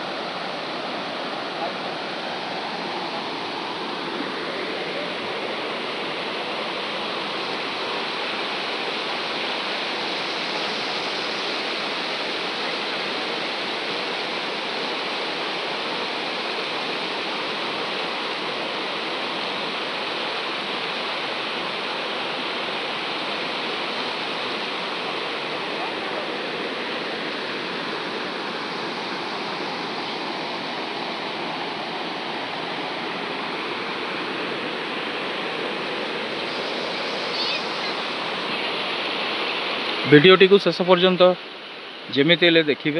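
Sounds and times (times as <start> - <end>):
river rushing over stones: 0.0 - 42.9.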